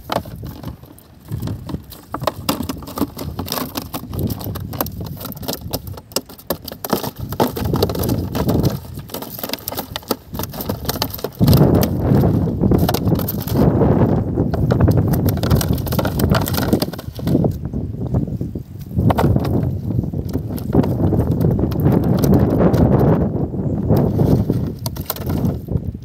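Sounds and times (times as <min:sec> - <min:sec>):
fish knocking against plastic bucket: 0:00.0 - 0:13.7, 0:14.5 - 0:17.6, 0:19.0 - 0:23.2, 0:23.9 - 0:25.7
wind rumble on microphone: 0:00.0 - 0:26.0.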